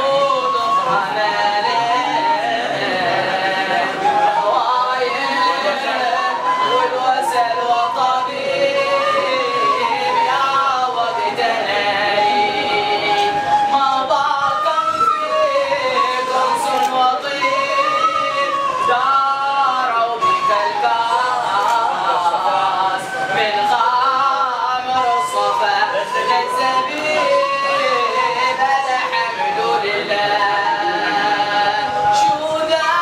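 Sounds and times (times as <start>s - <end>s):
men chanting religious song: 0.0s - 33.0s
wooden flute: 0.0s - 33.0s.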